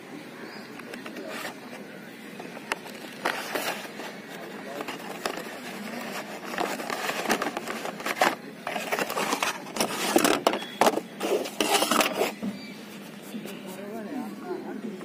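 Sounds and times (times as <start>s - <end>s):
cardboard boxes scraping and rustling: 1.0s - 1.7s, 2.4s - 14.0s.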